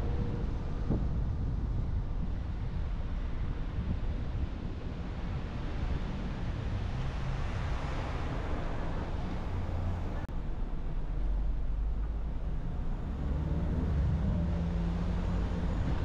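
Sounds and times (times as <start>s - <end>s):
car tyre and road noise: 0.0s - 16.0s.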